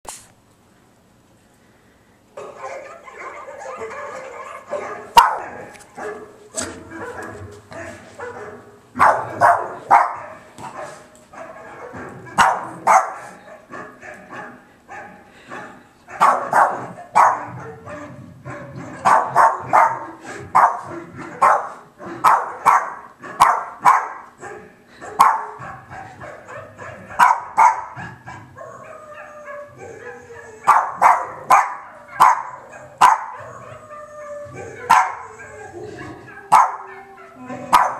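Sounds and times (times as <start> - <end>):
dogs barking through tv speaker: 2.4 - 37.9.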